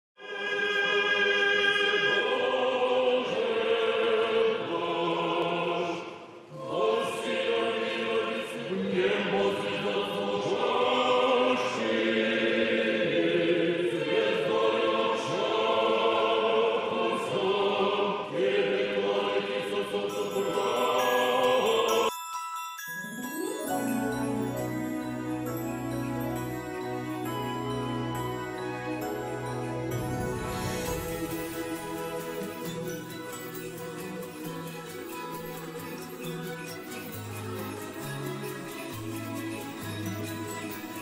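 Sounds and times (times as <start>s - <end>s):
choir singing a cappella chant: 0.2s - 22.1s, 23.3s - 41.0s.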